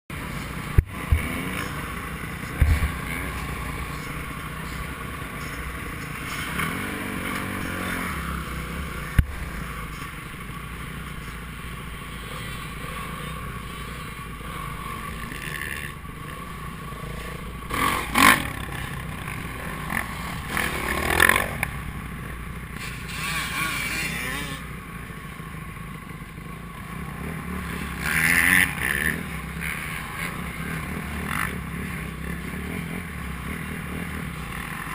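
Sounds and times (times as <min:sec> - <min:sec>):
motocross motorcycle engines: 0:00.1 - 0:34.9.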